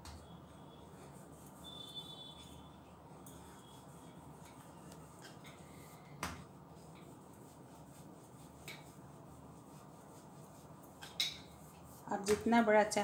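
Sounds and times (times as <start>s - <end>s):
rolling pin rubbing on dough: 0.2s - 13.0s.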